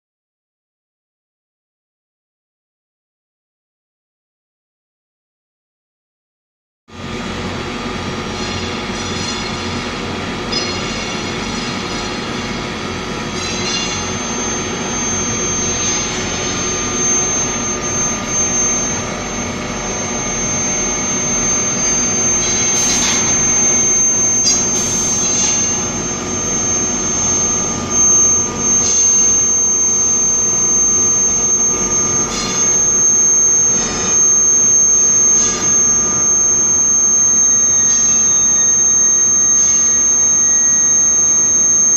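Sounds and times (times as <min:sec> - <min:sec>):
furnace machine hum: 0:06.9 - 0:41.9
piercing high whine: 0:06.9 - 0:41.9.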